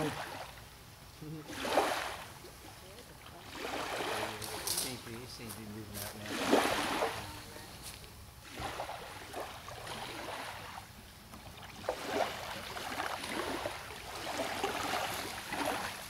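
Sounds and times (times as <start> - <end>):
waves lapping against wooden pilings: 0.0 - 16.0.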